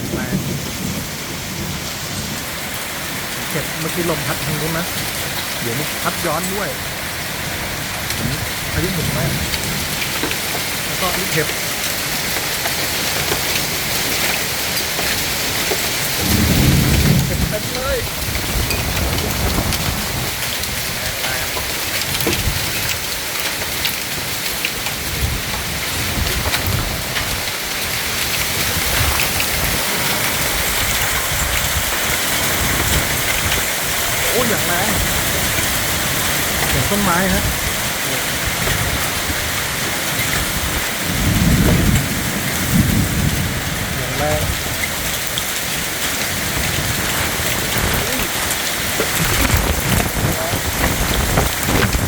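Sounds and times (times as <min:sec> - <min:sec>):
hail ticking on hard surfaces: 0:00.0 - 0:52.0
heavy rain hiss: 0:00.0 - 0:52.0
wind buffeting microphone: 0:00.0 - 0:52.0.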